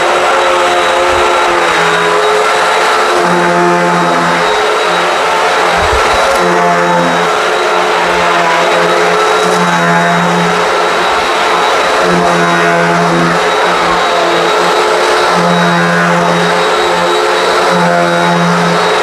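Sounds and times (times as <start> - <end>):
low hum of vacuum on rug: 0.0 - 19.0
upright vacuum motor whine: 0.0 - 19.0.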